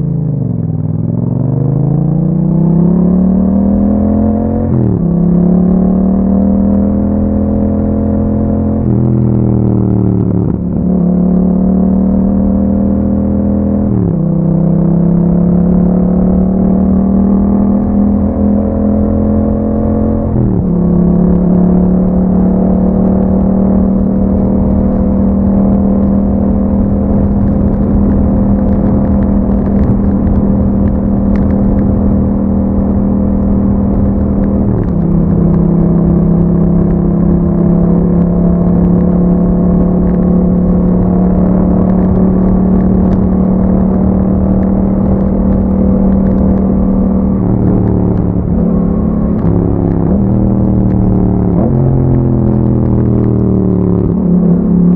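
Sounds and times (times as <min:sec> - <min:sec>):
motorcycle engine running: 0:04.7 - 0:54.9.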